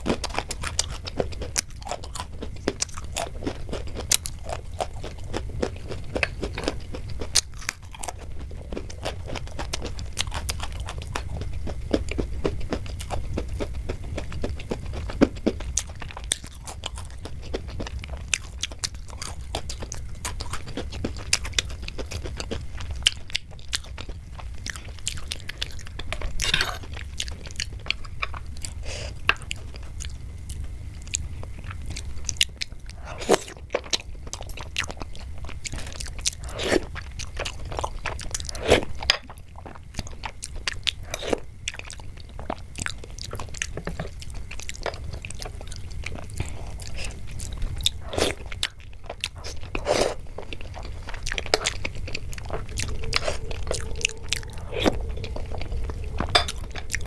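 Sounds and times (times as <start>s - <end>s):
steady low hum: 0.0s - 57.0s
wet chewing and slurping: 0.0s - 57.0s.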